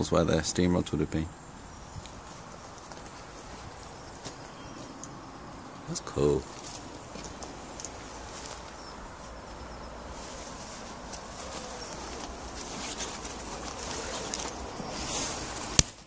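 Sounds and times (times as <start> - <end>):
steady outdoor rush: 0.0 - 16.0.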